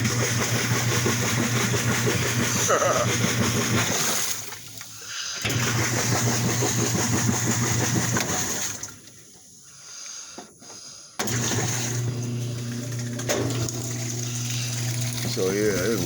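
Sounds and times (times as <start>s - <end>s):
washing machine humming: 0.0s - 9.4s, 11.2s - 16.0s.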